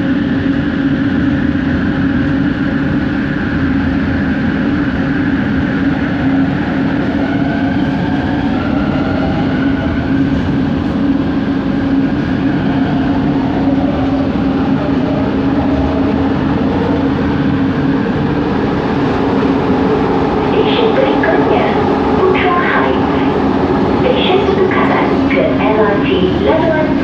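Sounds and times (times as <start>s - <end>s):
metro train low hum: 0.0s - 27.0s
train rolling noise: 0.0s - 27.0s.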